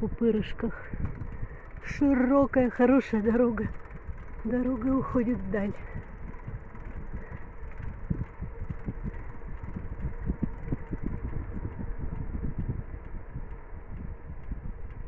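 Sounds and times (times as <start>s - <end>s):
bicycle tyres rumbling on asphalt: 0.0s - 15.0s
bike rattling and knocking: 0.0s - 15.0s.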